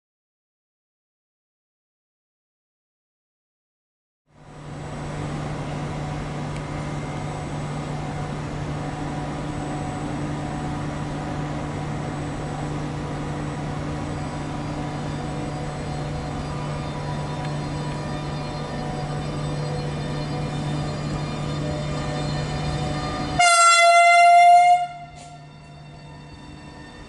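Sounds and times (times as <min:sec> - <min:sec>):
electric train hum: 0:04.3 - 0:27.0.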